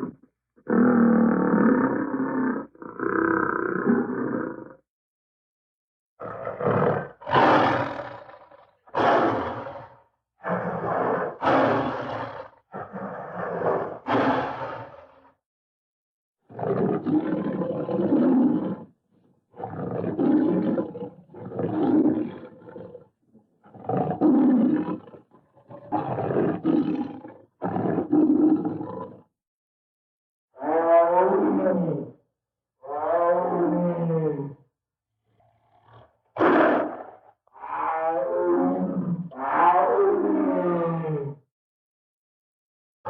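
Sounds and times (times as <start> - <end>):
big cat roaring and growling: 0.0 - 4.8, 6.2 - 15.3, 16.5 - 29.3, 30.6 - 32.2, 32.8 - 34.6, 35.3 - 41.4.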